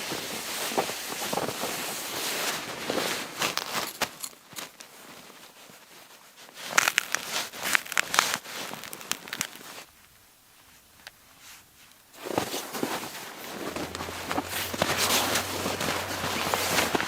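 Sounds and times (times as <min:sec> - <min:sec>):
rustles: 0:00.0 - 0:17.0.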